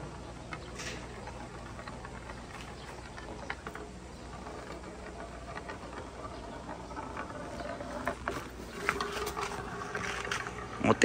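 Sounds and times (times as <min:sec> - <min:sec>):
glass marble rolling on wood: 0:00.0 - 0:11.0.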